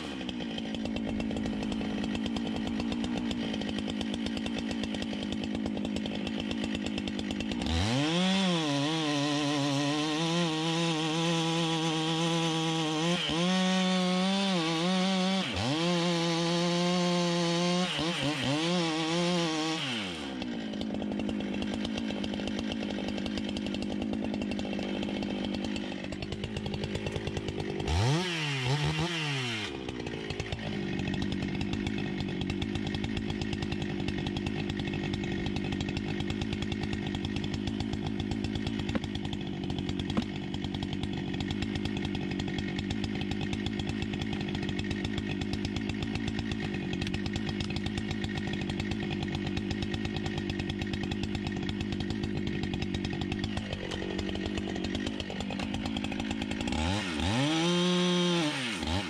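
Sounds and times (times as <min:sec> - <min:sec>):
chainsaw cutting and idling: 0:00.0 - 0:59.0.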